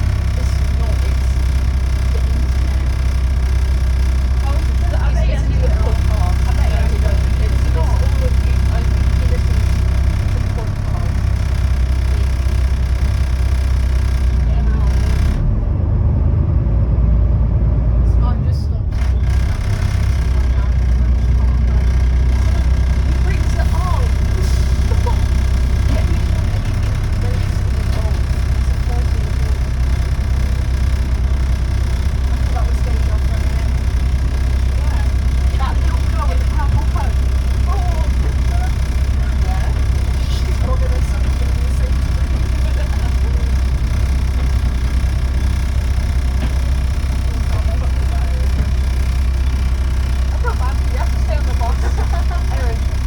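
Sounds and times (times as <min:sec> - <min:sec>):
bus diesel engine idling: 0:00.0 - 0:53.0.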